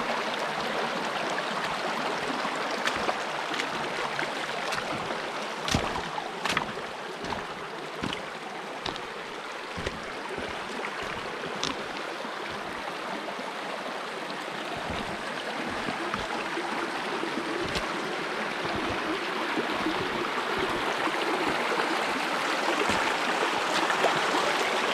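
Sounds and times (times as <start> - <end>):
stream babbling over rocks: 0.0 - 24.9.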